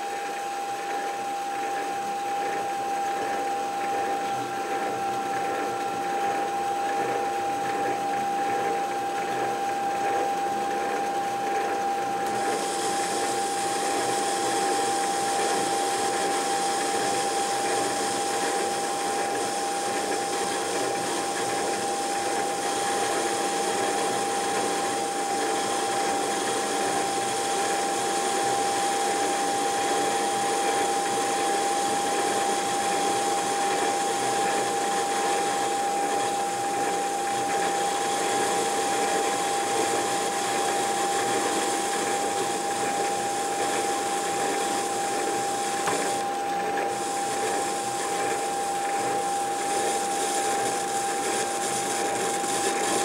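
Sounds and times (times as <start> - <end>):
metal lathe whining: 0.1 - 53.0.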